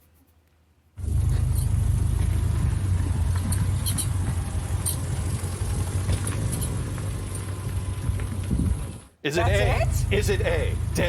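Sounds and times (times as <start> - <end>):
brakes squealing: 1.0 - 11.0
car road and engine rumble: 1.0 - 11.0.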